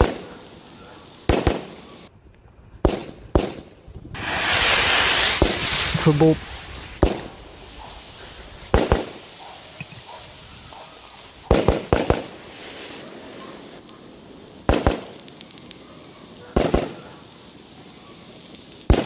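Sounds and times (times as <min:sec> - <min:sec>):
firecrackers banging: 0:00.0 - 0:02.1, 0:02.8 - 0:19.0.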